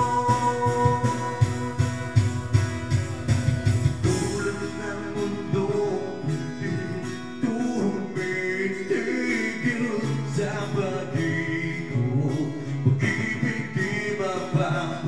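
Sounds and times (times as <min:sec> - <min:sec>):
man singing into microphone: 0:00.0 - 0:02.5, 0:04.0 - 0:15.0
instrumental backing music: 0:00.0 - 0:15.0.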